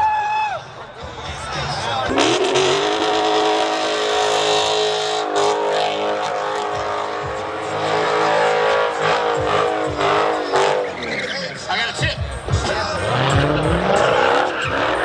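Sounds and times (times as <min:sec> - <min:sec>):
car engine at high revs: 0:02.1 - 0:15.0.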